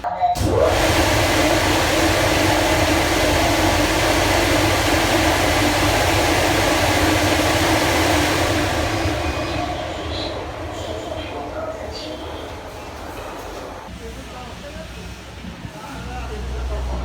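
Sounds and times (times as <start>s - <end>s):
blower fans rushing air: 0.4s - 17.0s.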